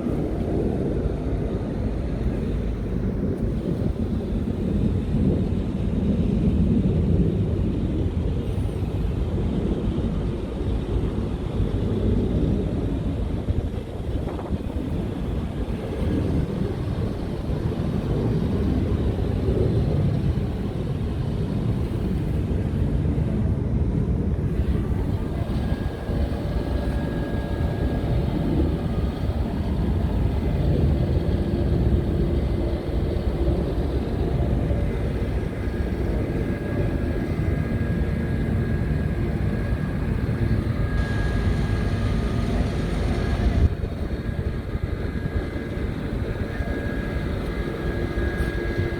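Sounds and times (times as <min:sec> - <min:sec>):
diesel engine rumbling: 0:00.0 - 0:48.9
faint steady whine: 0:00.0 - 0:48.9.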